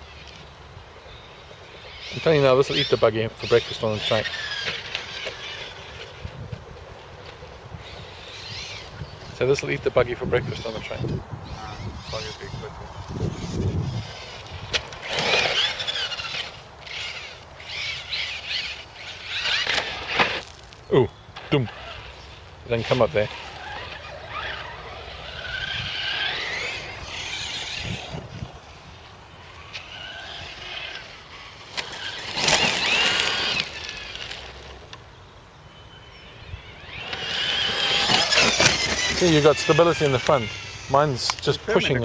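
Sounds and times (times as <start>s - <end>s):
electric motor of rc car whining: 1.2s - 6.6s, 7.7s - 20.6s, 21.4s - 35.0s, 36.0s - 42.0s.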